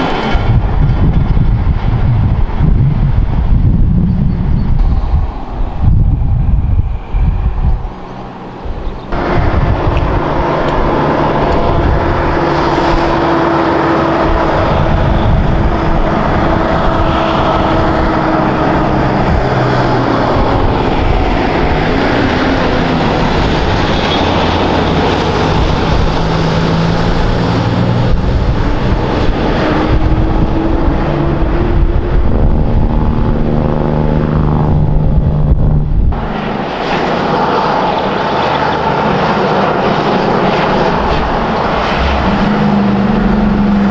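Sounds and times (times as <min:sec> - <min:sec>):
truck diesel engine passing: 0:00.0 - 0:03.8, 0:04.4 - 0:43.9
heavy truck engine: 0:00.0 - 0:43.9.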